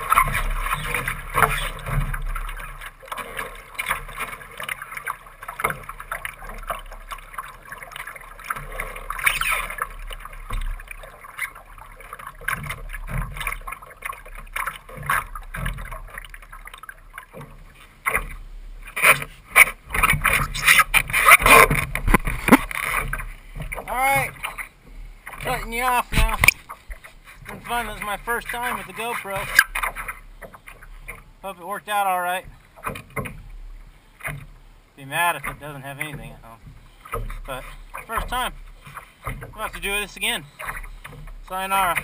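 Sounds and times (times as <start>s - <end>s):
water splashing against boat: 0.0s - 42.0s.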